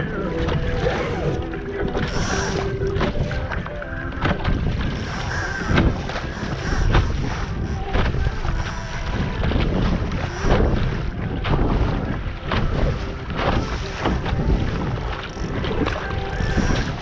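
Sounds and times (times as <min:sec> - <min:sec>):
water rushing along hull: 0:00.0 - 0:17.0
waves slapping against bow: 0:00.0 - 0:17.0
wind buffeting microphone: 0:00.0 - 0:17.0.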